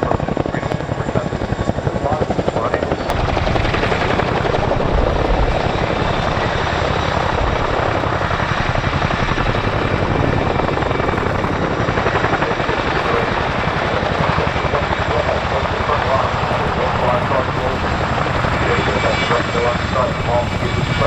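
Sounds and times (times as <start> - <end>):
helicopter rotor blade chop: 0.0 - 21.0.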